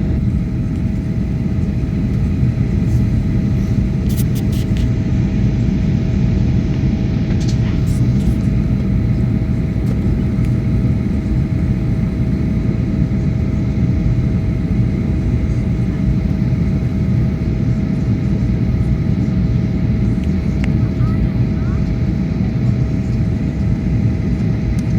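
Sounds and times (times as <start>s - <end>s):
aircraft cabin engine rumble: 0.0s - 24.9s.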